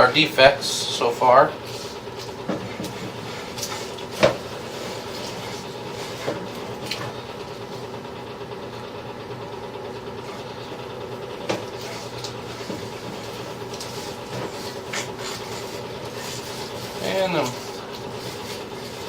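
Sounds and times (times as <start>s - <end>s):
camera rig mechanical hum: 0.0s - 19.0s.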